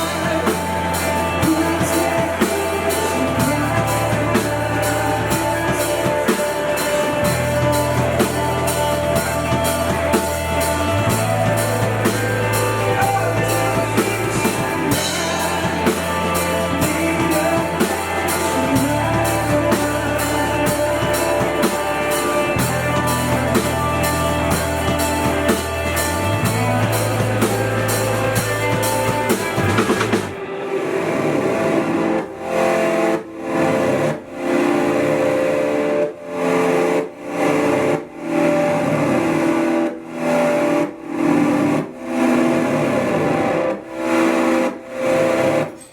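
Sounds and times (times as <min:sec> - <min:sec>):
bass line: 0:00.0 - 0:45.9
drum kit beat: 0:00.0 - 0:45.9
electric guitar: 0:00.0 - 0:45.9.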